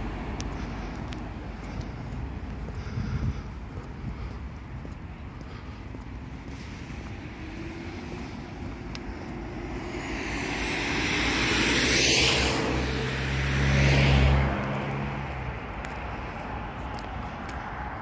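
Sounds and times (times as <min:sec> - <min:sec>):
low engine hum: 0:00.0 - 0:18.0
vehicles driving past: 0:00.0 - 0:18.0.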